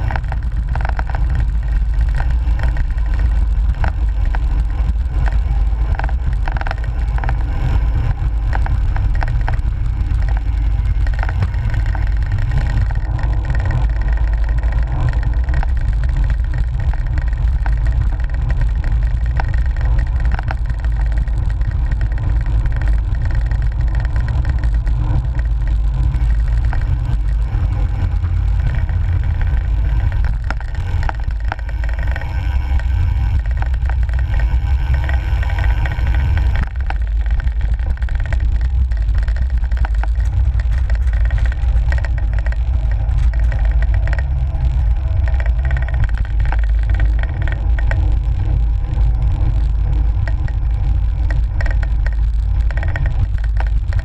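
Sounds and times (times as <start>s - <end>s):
bicycle tyre rumble: 0.0s - 54.0s
wind rumbling over microphone: 0.0s - 54.0s.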